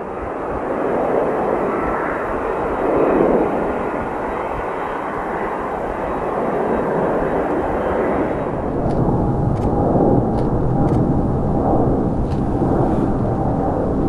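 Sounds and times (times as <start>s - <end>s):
distant jet engines climbing: 0.0s - 14.0s.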